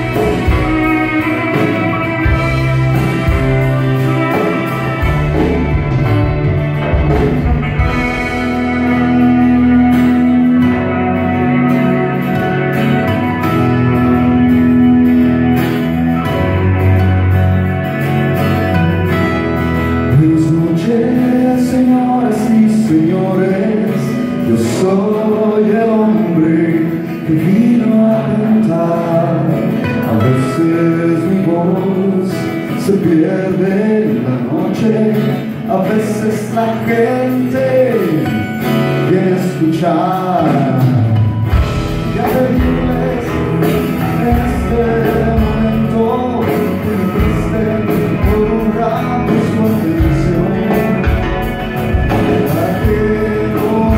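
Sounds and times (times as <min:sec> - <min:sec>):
bass line: 0:00.0 - 0:32.2, 0:35.6 - 0:53.9
acoustic guitars: 0:00.0 - 0:53.9
drums: 0:00.0 - 0:53.9
keyboard: 0:00.0 - 0:53.9.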